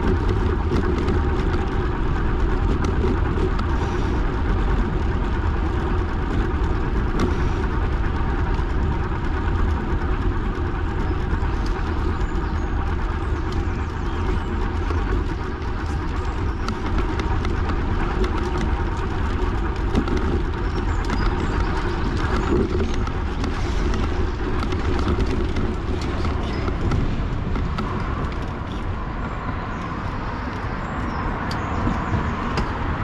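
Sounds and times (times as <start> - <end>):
road noise: 0.0 - 33.0
wind rumble on microphone: 0.0 - 33.0.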